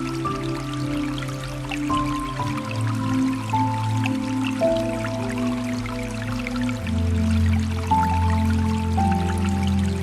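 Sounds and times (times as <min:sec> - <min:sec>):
calm music with held notes: 0:00.0 - 0:10.0
water dripping: 0:00.0 - 0:10.0.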